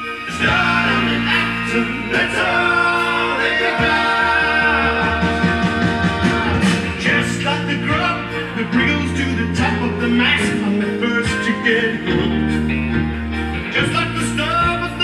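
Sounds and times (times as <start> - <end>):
song with singing over bass line: 0.0 - 15.0.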